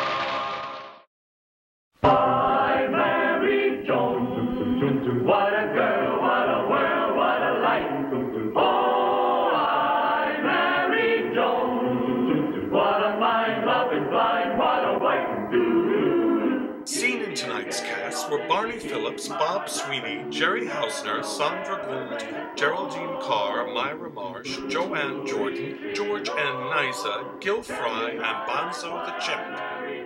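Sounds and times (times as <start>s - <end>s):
choir singing theme song: 2.0s - 30.0s.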